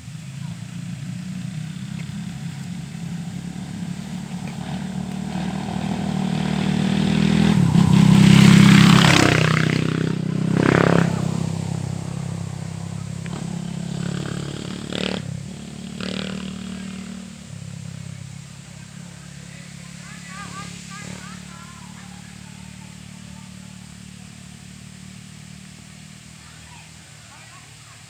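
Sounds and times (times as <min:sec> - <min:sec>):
motorcycle engine passing by: 0:00.0 - 0:28.0.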